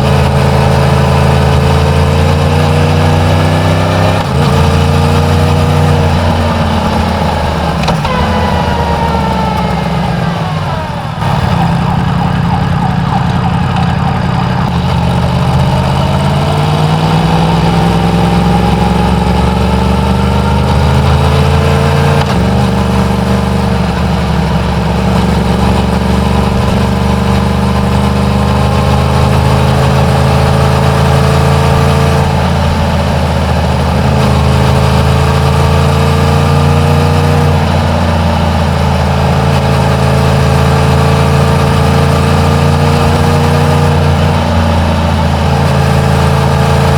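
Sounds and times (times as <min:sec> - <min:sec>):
motorcycle engine riding: 0:00.0 - 0:46.9.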